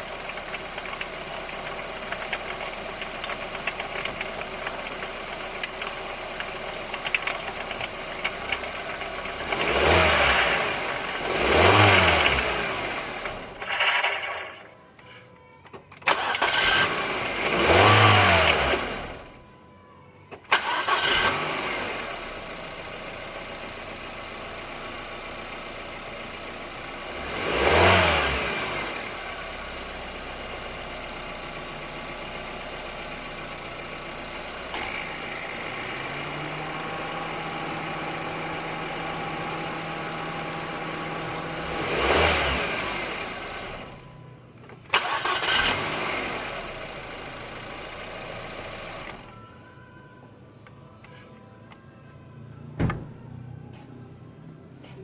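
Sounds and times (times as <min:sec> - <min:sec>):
car engine idling and revving: 0:00.0 - 0:14.7, 0:16.0 - 0:19.5, 0:20.3 - 0:49.6.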